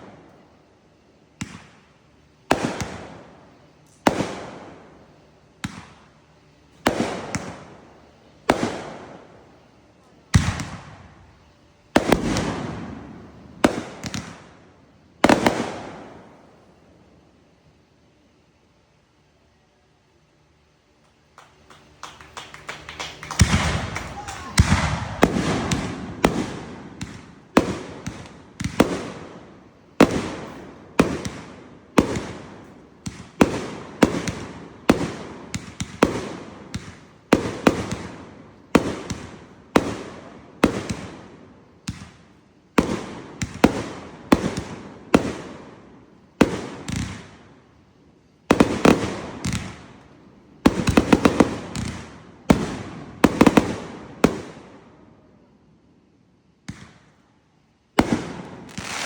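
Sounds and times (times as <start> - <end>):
fireworks bangs echoing: 1.3 - 14.6, 15.2 - 16.6, 21.4 - 47.6, 48.4 - 50.0, 50.6 - 54.8, 58.0 - 59.0.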